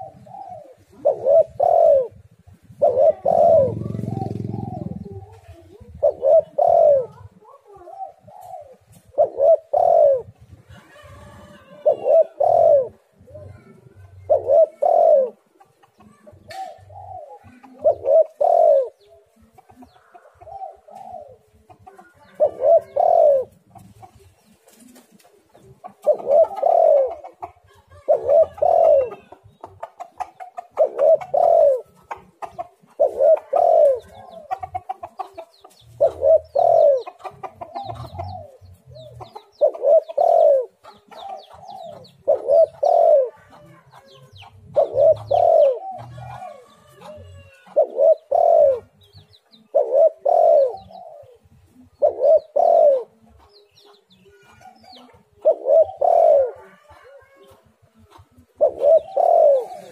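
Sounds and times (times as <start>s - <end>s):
dove cooing: 0.0s - 59.9s
small birds chirping: 11.5s - 59.9s.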